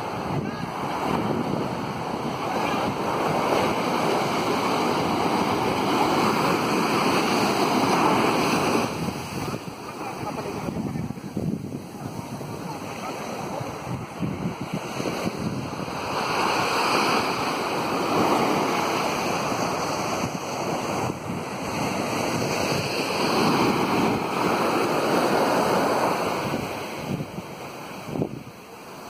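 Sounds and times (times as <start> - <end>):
sea surf breaking on shore: 0.0 - 29.0.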